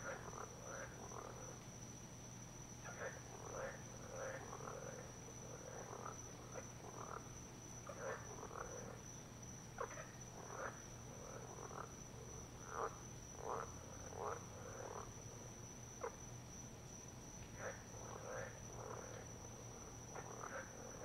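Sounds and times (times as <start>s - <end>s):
frogs calling: 0.0s - 1.7s, 2.6s - 21.0s.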